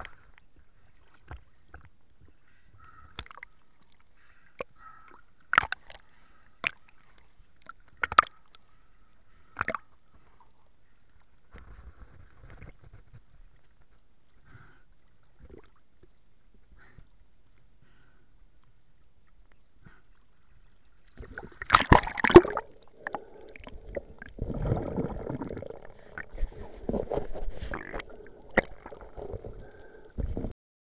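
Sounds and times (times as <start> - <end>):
water sloshing and gurgling: 0.0 - 30.5.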